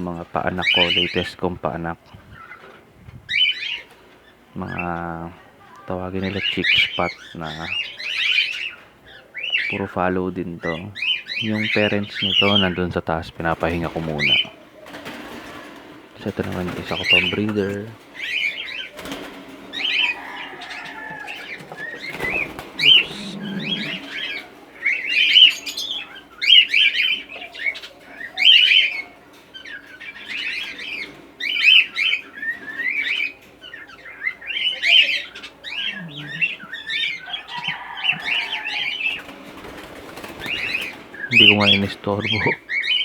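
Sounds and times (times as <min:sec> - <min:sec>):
birds chirping and calling: 0:00.0 - 0:43.0.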